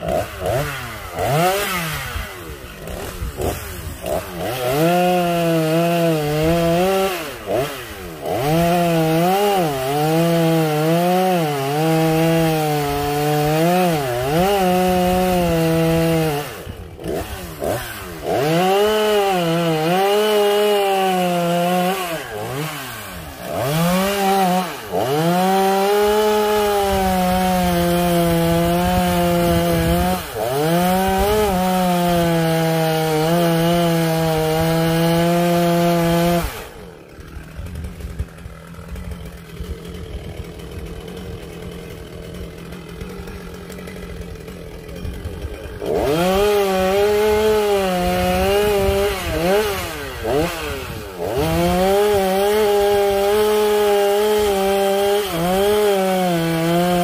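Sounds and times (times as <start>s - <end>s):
chainsaw cutting through wood: 0.0s - 57.0s.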